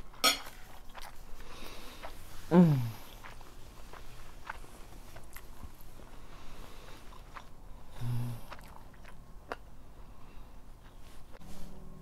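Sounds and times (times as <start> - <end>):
chewing food: 0.0 - 11.4.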